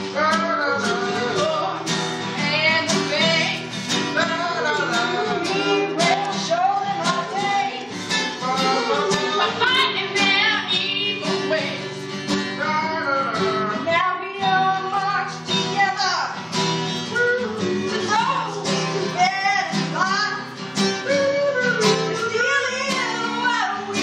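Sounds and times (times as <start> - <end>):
person singing: 0.0 - 24.0
strummed acoustic guitar: 0.0 - 24.0.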